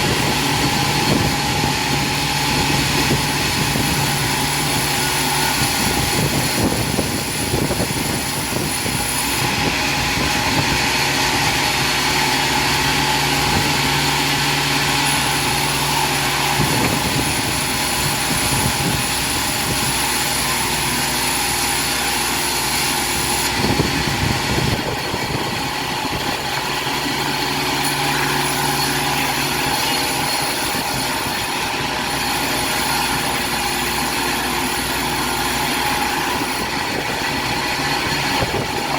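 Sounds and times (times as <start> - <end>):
sawmill machinery din: 0.0 - 38.9.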